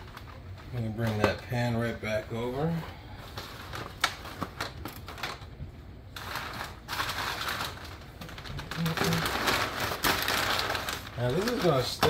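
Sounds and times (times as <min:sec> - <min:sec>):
paper and foil pan crinkling: 0:00.0 - 0:12.0.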